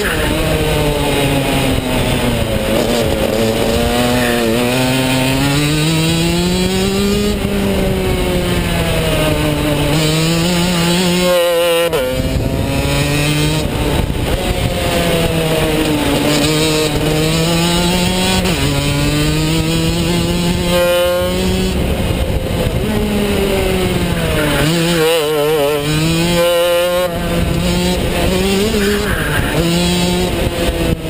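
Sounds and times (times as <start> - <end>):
kart engine racing: 0.0 - 31.0.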